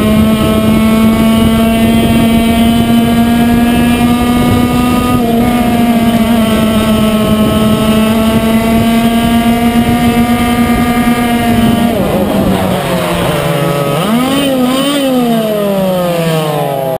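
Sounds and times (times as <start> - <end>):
kart engine revving: 0.0 - 16.9.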